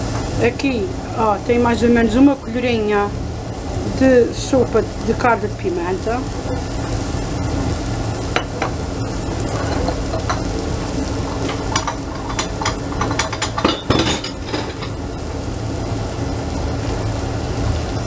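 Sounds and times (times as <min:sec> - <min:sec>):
food sizzling in oil: 0:00.0 - 0:18.0
low steady hum: 0:00.0 - 0:18.0.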